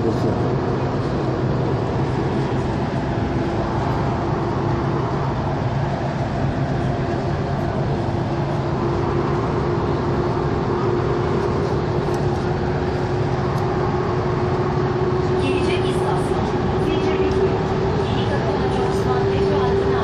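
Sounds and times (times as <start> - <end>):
car driving in traffic: 0.0 - 20.0.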